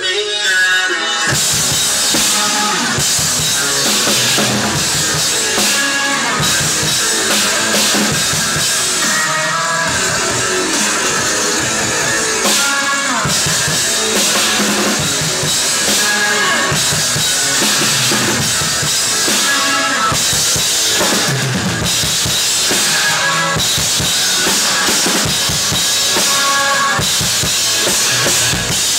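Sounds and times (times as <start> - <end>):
backing track with held notes: 0.0 - 28.9
drum kit beat: 1.3 - 28.9.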